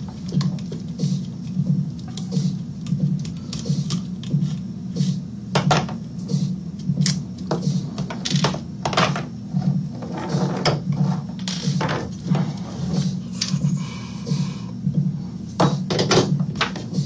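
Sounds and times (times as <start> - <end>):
background music with low beat: 0.0 - 17.0.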